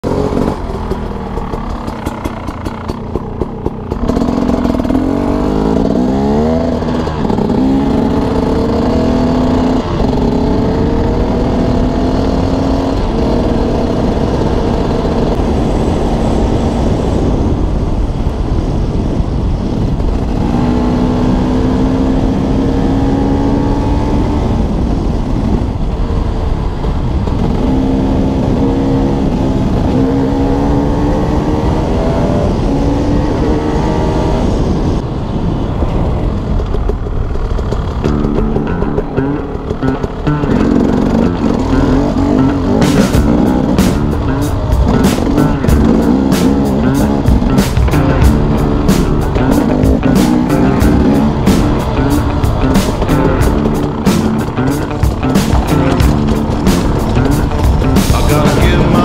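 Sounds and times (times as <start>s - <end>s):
dirt bike engine accelerating: 0.0s - 59.0s
low wind rumble: 0.0s - 59.0s.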